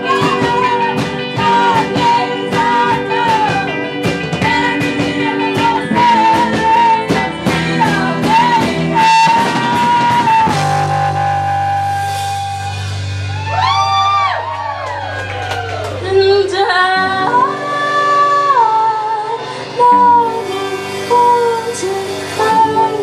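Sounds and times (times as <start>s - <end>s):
woman singing lead: 0.0s - 12.9s, 15.6s - 23.0s
live rock band: 0.0s - 23.0s.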